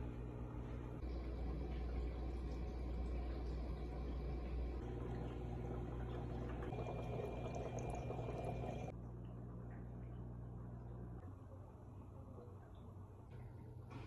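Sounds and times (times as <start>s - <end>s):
steady low hum: 0.0s - 14.0s
water moving in aquarium: 0.0s - 14.0s.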